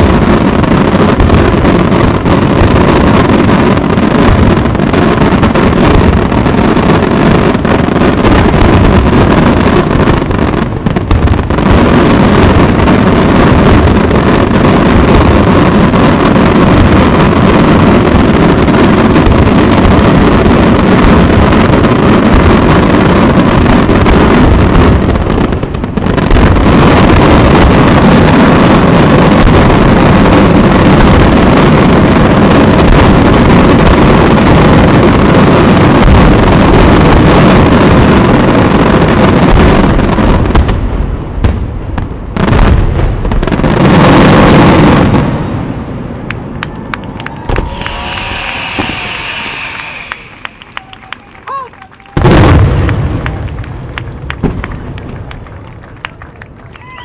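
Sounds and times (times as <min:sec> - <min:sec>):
fireworks explosions rumbling: 0:00.0 - 0:57.0.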